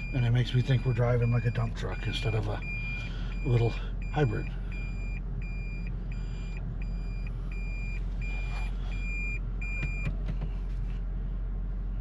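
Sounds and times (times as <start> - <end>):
reverse warning beeping: 0.0 - 10.2
low cabin hum: 0.0 - 12.0.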